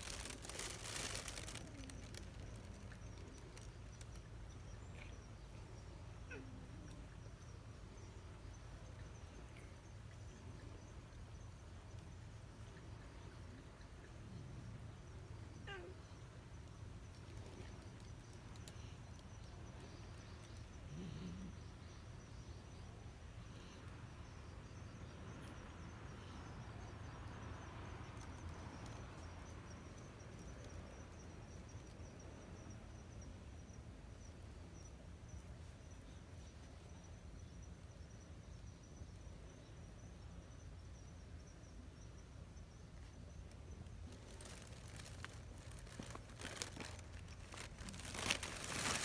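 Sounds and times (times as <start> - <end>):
faint high insect trill: 0.0 - 49.0.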